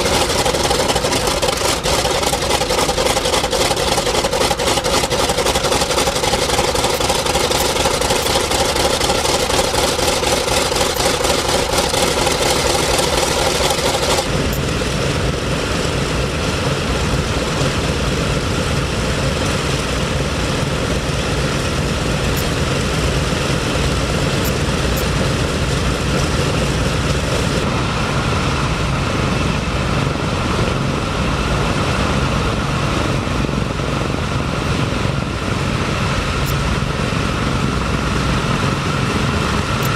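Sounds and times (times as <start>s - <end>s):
propeller aircraft engines running: 0.0s - 39.9s.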